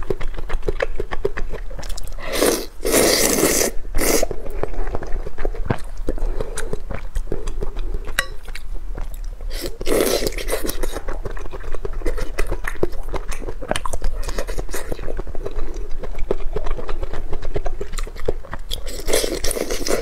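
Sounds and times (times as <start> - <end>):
person chewing noodles: 0.0 - 20.0.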